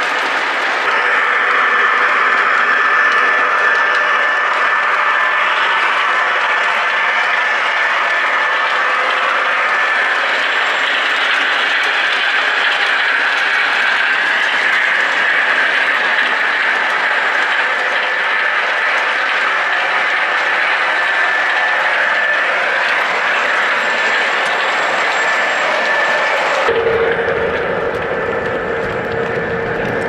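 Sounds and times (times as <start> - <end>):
model train wheels rumbling on rails: 0.0 - 30.0.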